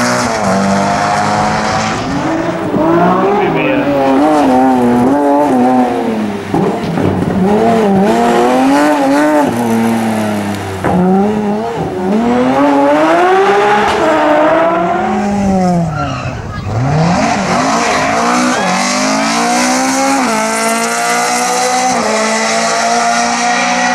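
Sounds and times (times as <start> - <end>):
car engine revving hard: 0.0 - 23.9.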